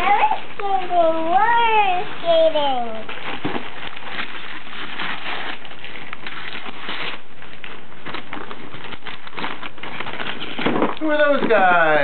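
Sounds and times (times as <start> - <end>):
wrapping paper tearing and crumpling: 0.0 - 12.0.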